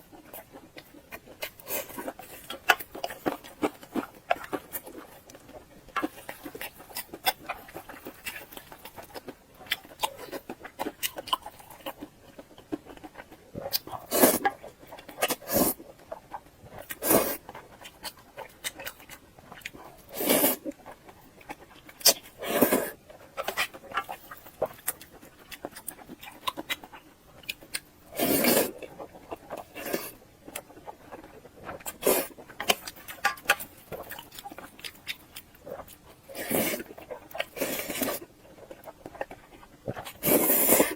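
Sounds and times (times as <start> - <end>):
wet chewing mouth noises: 0.0 - 40.9.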